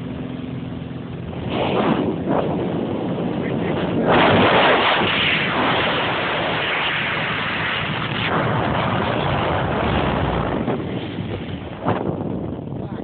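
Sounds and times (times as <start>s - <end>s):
boat engine running: 0.0s - 13.0s
wind on microphone: 1.1s - 13.0s.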